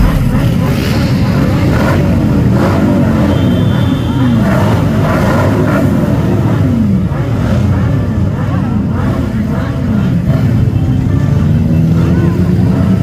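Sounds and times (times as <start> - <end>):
motorcycle revving: 0.0 - 13.0
motorcycles idling and rumbling: 0.0 - 13.0.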